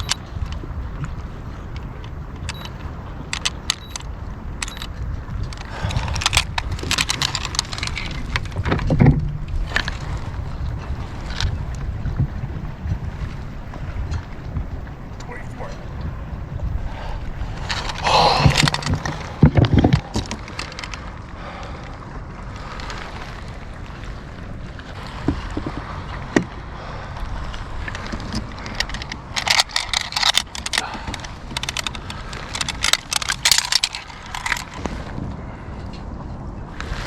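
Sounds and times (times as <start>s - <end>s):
gear clattering on a kayak: 0.0s - 37.0s
wind noise on microphone: 0.0s - 37.0s.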